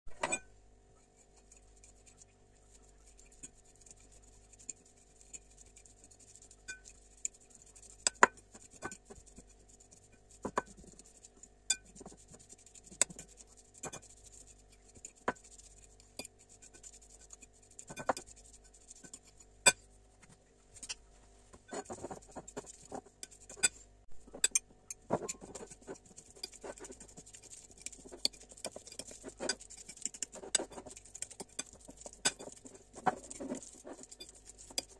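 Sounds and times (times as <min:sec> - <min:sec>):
faint steady hum: 0:00.1 - 0:34.9.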